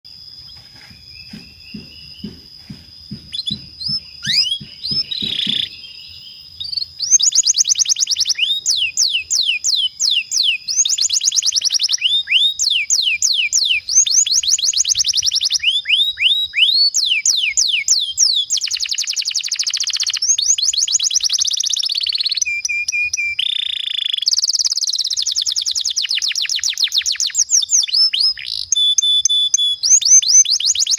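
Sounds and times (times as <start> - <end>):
canary singing trills: 0.1 - 30.9.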